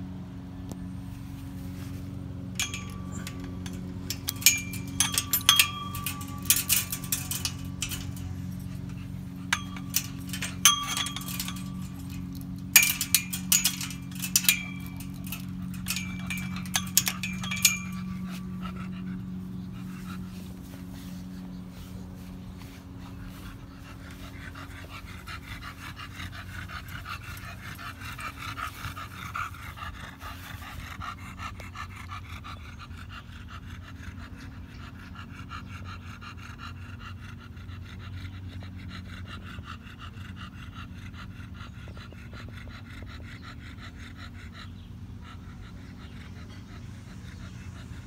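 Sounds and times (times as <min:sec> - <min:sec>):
dog panting: 0:02.5 - 0:48.0.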